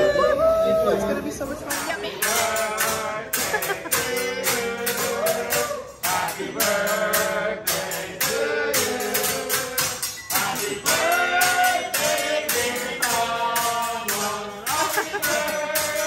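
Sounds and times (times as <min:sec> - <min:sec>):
steady percussive beat: 0:01.5 - 0:16.0
person singing: 0:02.2 - 0:16.0.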